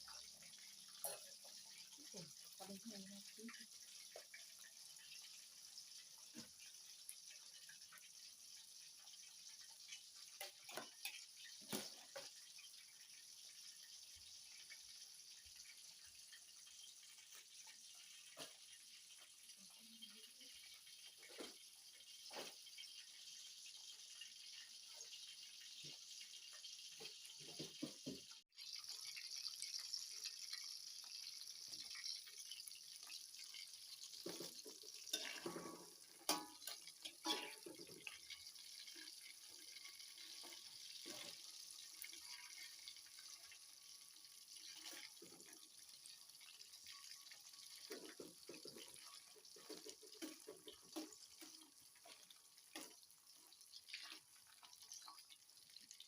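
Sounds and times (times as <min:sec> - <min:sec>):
light water splashes and drips: 0:00.0 - 0:56.0
water trickling: 0:00.0 - 0:56.0.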